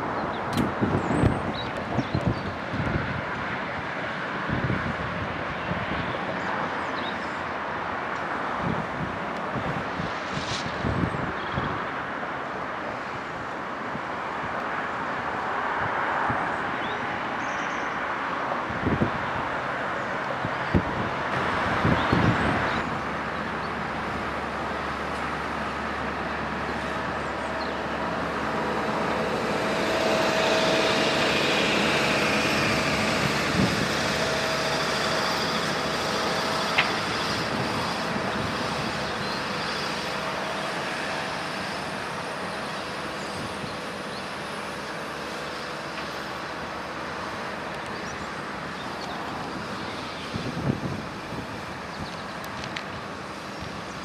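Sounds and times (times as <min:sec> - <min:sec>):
machinery engines running: 0:00.0 - 0:54.0.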